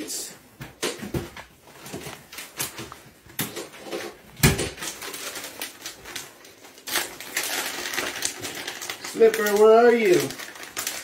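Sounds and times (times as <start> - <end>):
treat bag rattling and crinkling: 1.9 - 11.0.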